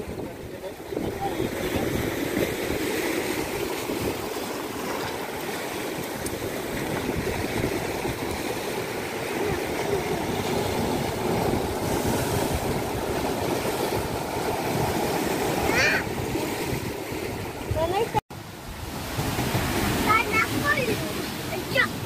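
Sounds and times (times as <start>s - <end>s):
surf washing over rocks: 0.0s - 22.0s.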